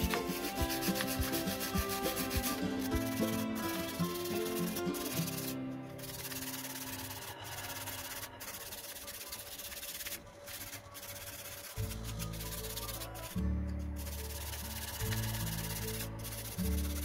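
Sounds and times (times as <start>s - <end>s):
background music: 0.0s - 17.0s
wire brush scrubbing: 0.0s - 17.0s.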